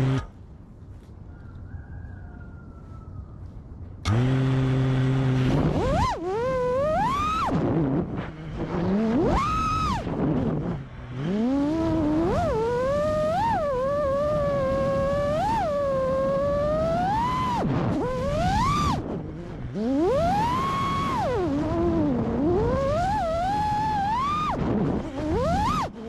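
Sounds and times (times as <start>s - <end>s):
drone motors whining: 0.0s - 0.3s, 4.0s - 26.0s.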